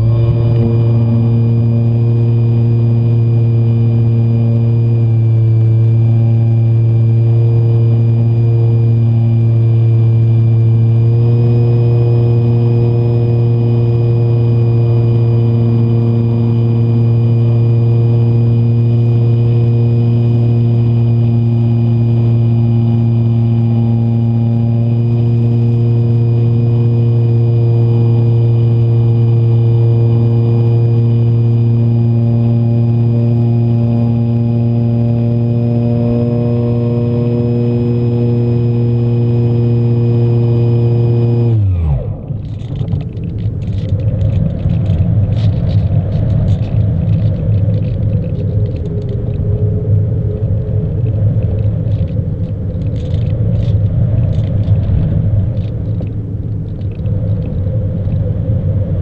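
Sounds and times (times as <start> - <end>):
model plane motor and propeller: 0.0 - 59.0.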